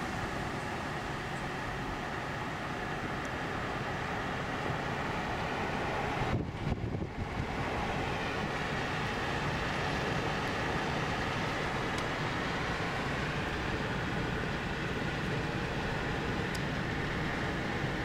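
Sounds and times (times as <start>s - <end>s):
car road noise from inside: 0.0s - 18.0s.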